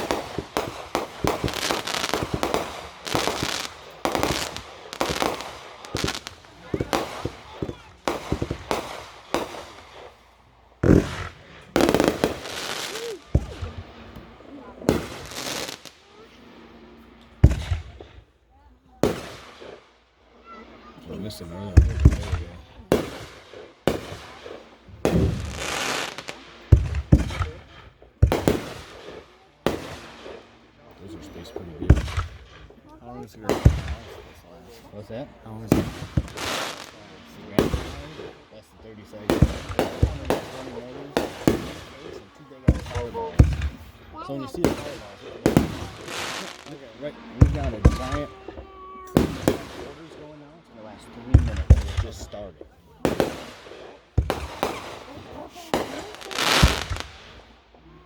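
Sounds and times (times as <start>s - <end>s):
crackling hiss: 0.0s - 58.0s
fireworks bangs: 0.0s - 58.0s.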